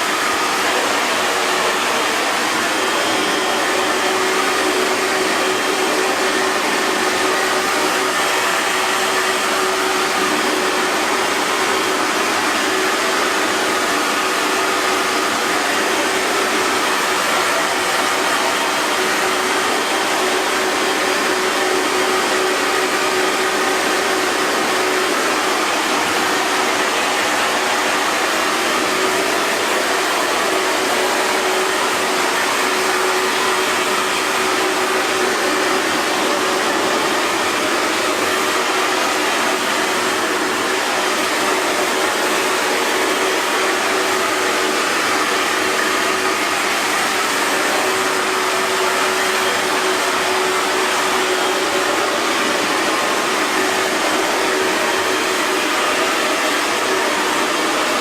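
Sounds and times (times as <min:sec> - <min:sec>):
hair dryer blowing air: 0:00.0 - 0:58.0.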